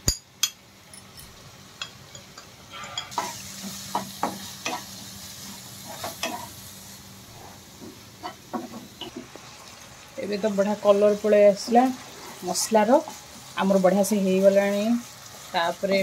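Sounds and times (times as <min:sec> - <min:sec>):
masala sizzling: 0:00.0 - 0:16.0.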